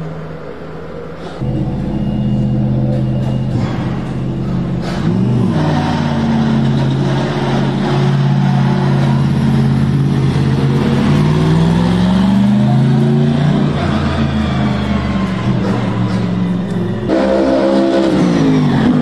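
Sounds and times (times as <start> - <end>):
race car engine revving: 1.3 - 19.0.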